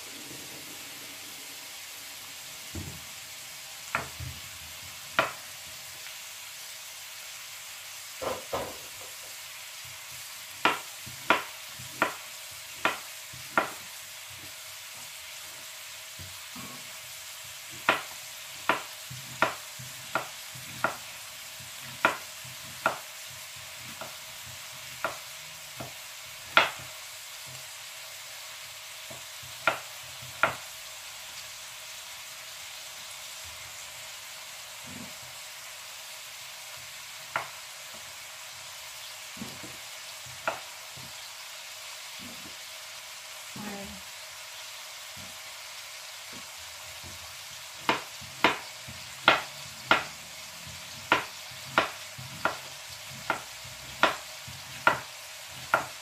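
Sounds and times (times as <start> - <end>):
meat sizzling in oil: 0.0 - 56.0.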